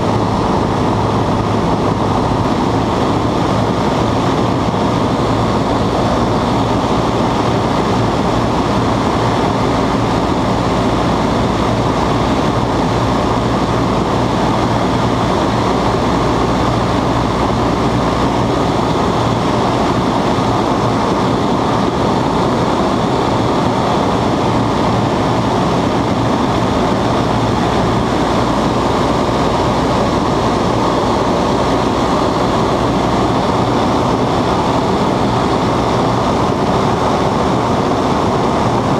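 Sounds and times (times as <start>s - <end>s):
propeller engine drone: 0.0s - 38.9s
rushing air: 0.0s - 38.9s.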